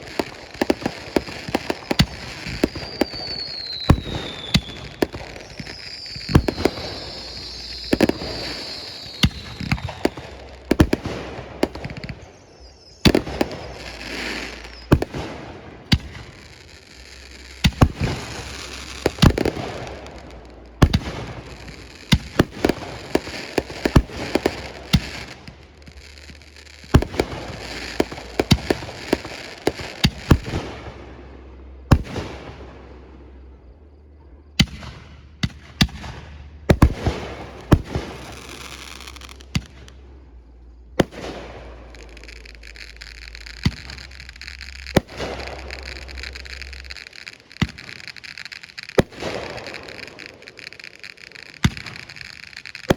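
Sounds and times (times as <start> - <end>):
falling firework whistle: 0.0 - 31.0, 34.6 - 52.9
fireworks bangs: 0.0 - 52.9
fireworks crackling: 0.0 - 52.9.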